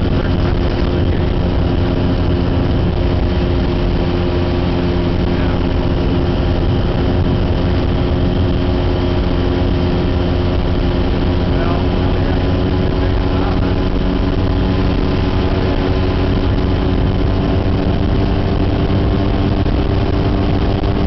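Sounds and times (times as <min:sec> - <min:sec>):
aircraft engine droning: 0:00.0 - 0:21.0.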